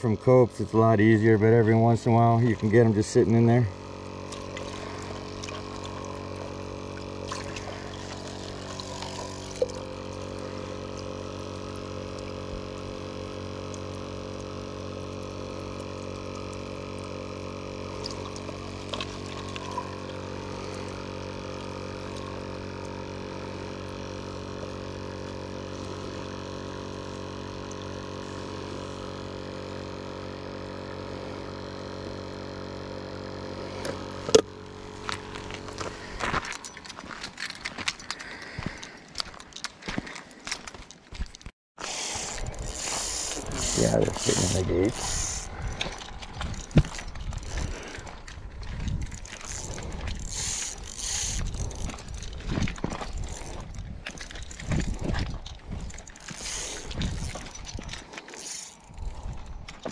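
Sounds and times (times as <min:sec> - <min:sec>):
steady hum of even tones: 0:00.0 - 0:59.9.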